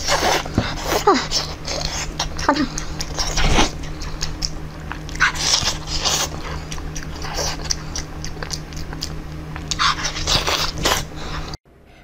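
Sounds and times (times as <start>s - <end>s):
person chewing and slurping: 0.0s - 11.6s
low hum: 0.0s - 12.0s.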